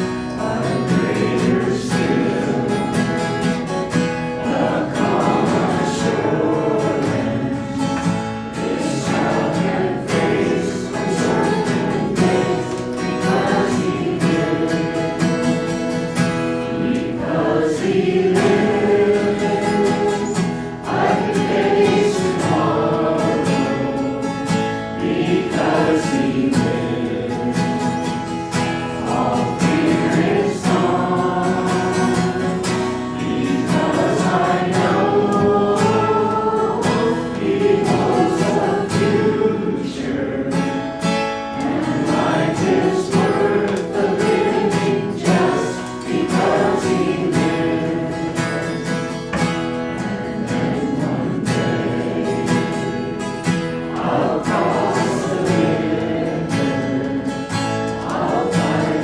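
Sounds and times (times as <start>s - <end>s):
acoustic guitar: 0.0s - 59.0s
congregation singing a hymn: 0.0s - 59.0s.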